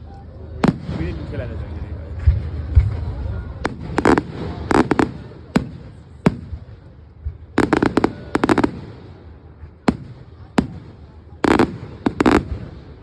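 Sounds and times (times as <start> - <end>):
fireworks bangs: 2.1 - 13.0.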